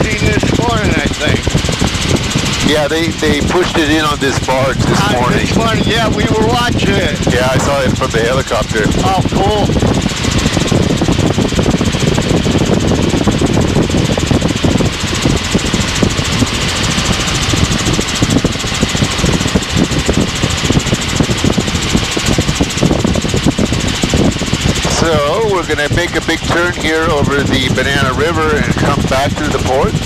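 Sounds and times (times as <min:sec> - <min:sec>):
helicopter engine and rotor noise: 0:00.0 - 0:30.0.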